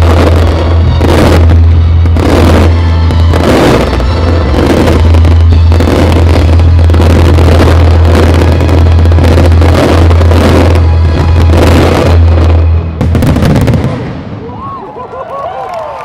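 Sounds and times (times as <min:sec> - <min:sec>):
fireworks bangs and crackle: 0:00.0 - 0:15.8.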